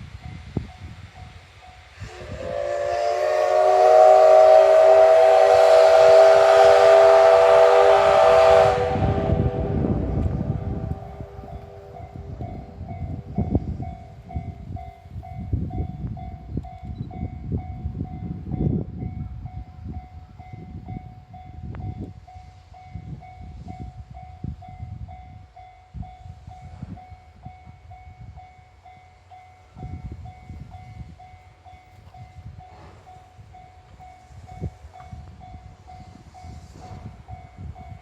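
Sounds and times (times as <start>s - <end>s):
steam locomotive chuffing: 0.0s - 38.0s.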